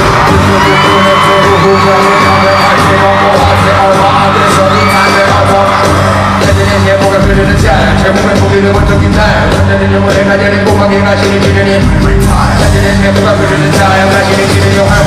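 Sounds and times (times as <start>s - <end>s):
fans screaming and whooping: 0.0s - 15.0s
heavy electronic beat: 0.0s - 15.0s
person rapping: 0.0s - 15.0s.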